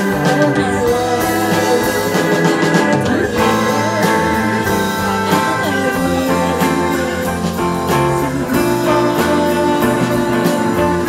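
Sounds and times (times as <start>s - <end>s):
live rock band playing: 0.0s - 11.0s
woman singing: 0.0s - 11.0s.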